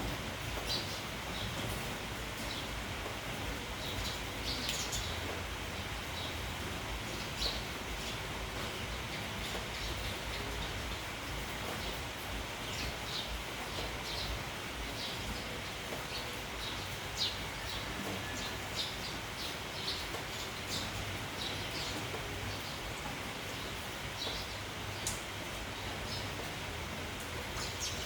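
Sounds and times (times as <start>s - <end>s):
rain: 0.0s - 28.0s
wind: 0.0s - 28.0s
sparrows chirping: 3.8s - 26.5s, 27.4s - 28.0s.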